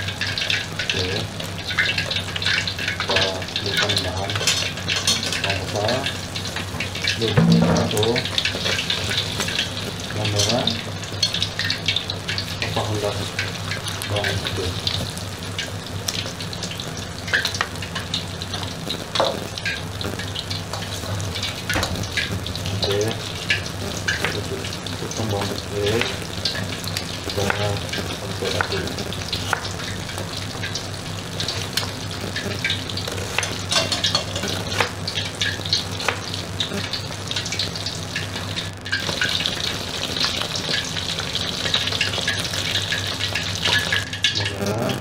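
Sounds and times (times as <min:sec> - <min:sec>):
chicken frying in hot oil: 0:00.0 - 0:45.0.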